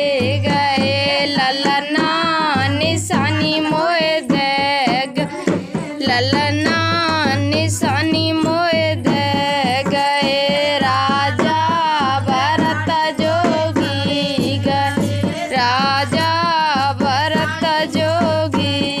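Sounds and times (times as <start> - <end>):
dholak drum beat: 0.0 - 19.0
person singing folk song: 0.0 - 19.0.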